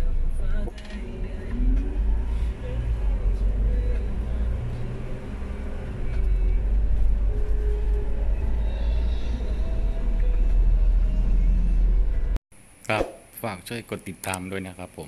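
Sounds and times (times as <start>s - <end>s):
vehicle engine and tyres rumbling: 0.0s - 12.4s.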